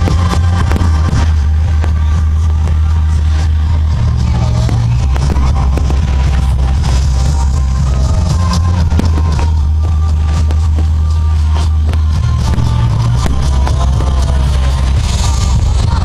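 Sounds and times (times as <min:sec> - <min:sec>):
firework cracks and pops: 0:00.0 - 0:16.0
loud music with heavy bass: 0:00.0 - 0:16.0.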